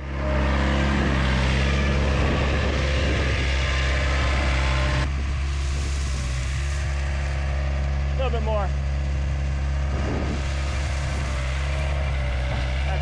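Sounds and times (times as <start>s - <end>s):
loader engine humming: 0.0s - 13.0s.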